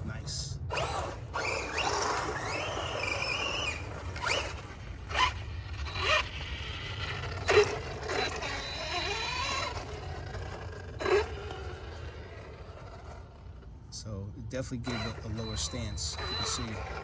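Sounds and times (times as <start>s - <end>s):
rc car electric motor whining: 0.2s - 13.7s, 14.7s - 17.0s.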